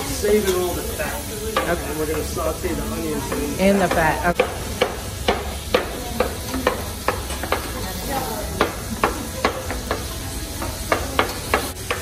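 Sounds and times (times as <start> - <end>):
bacon sizzling in a pan: 0.0 - 12.0.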